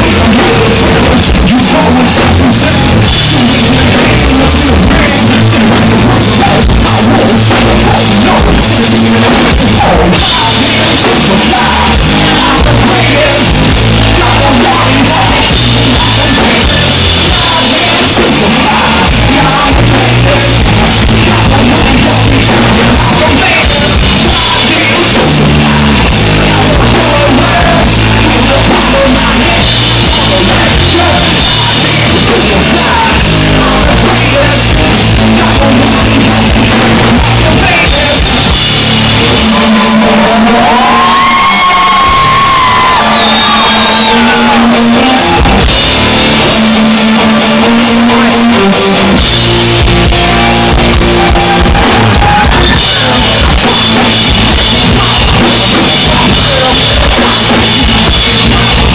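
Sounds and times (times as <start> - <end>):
person singing into microphone: 0.0 - 49.3, 49.9 - 58.9
drum kit beat: 0.0 - 58.9
electric guitar: 0.0 - 58.9.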